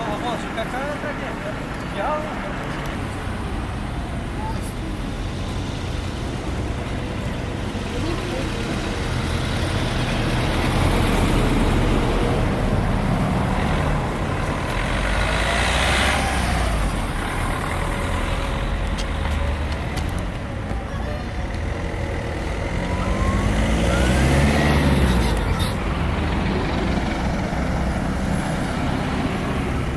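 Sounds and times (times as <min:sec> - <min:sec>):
road traffic passing: 0:00.0 - 0:29.9
truck engine: 0:00.0 - 0:29.9
vehicle pulling away: 0:05.6 - 0:29.9.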